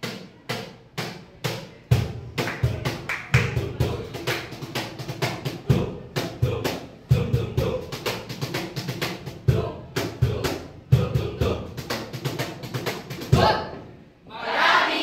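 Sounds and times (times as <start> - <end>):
drum-led music: 0.0 - 13.8.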